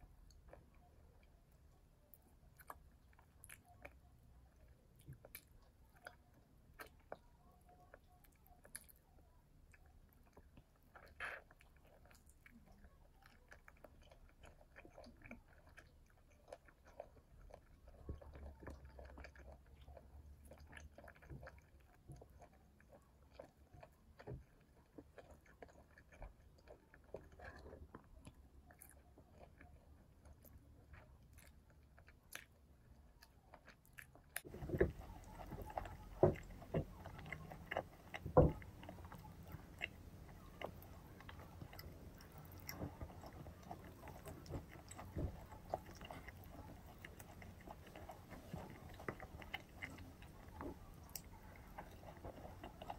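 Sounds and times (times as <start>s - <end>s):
chewing and biting: 0.0s - 52.9s.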